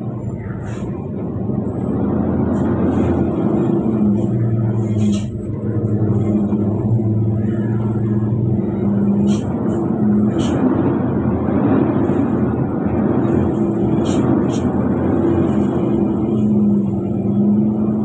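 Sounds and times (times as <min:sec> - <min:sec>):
heavy vehicle engine running: 0:00.0 - 0:18.0
road noise: 0:00.0 - 0:18.0.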